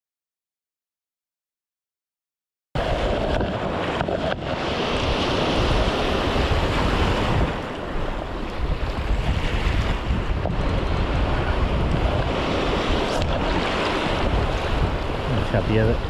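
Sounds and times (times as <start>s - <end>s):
surf washing over rocks: 2.8s - 16.0s
wind rumbling on microphone: 2.8s - 16.0s.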